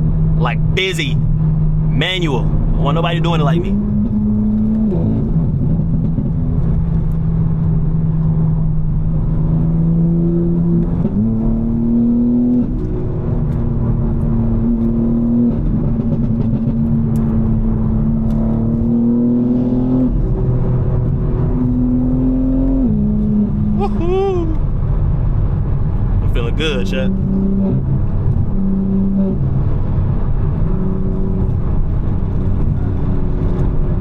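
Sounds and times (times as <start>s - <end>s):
car engine at highway revs: 0.0s - 23.8s, 24.6s - 34.0s.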